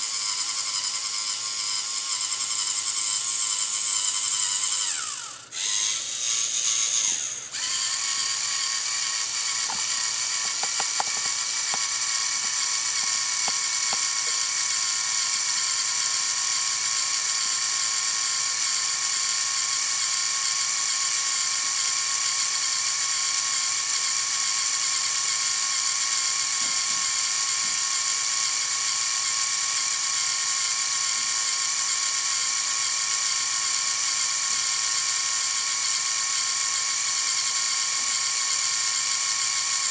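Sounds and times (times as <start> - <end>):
servo motors whirring with gear whine: 0.0 - 39.9.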